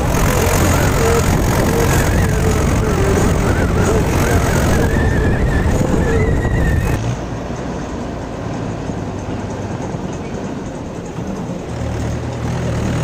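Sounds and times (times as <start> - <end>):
road noise: 0.0 - 13.0
tractor engine running under load: 0.0 - 13.0.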